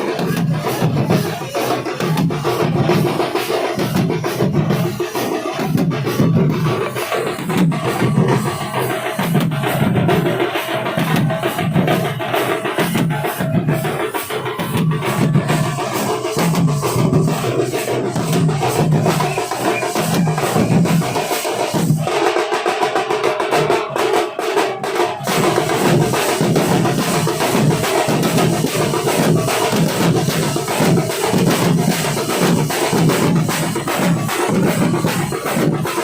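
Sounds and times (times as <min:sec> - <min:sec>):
higher drumming: 0:00.0 - 0:36.0.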